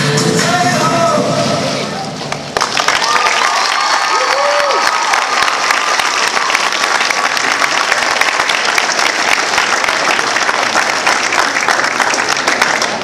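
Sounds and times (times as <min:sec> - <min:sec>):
audience applauding: 0:02.3 - 0:13.0.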